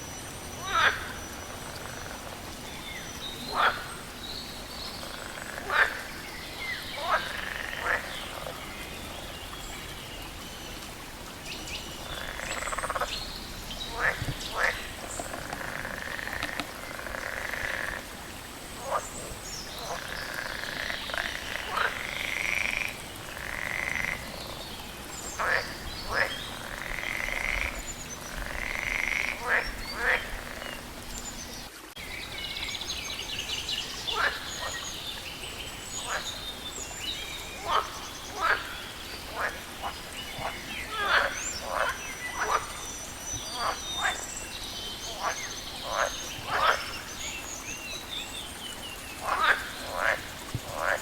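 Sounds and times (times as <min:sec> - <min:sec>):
frogs croaking: 0:00.0 - 0:51.0.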